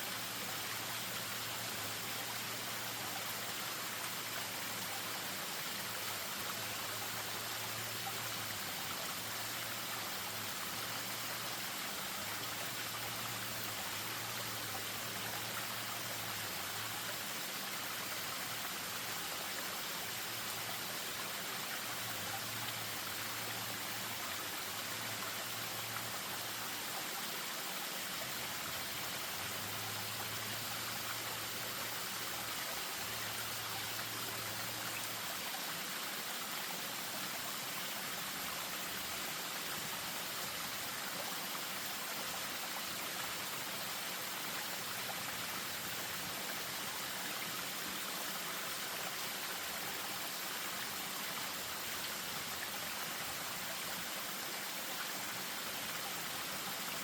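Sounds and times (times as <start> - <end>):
stream and small waterfall: 0.0 - 57.0.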